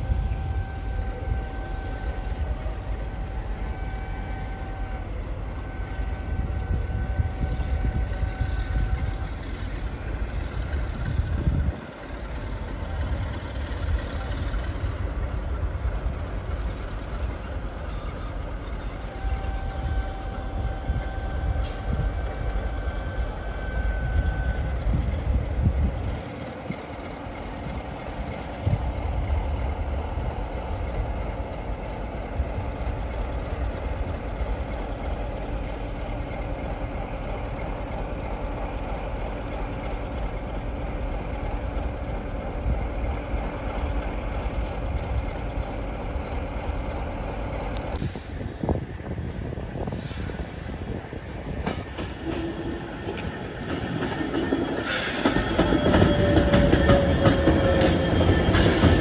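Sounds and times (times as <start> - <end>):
train rumbling on tracks: 0.0 - 59.0.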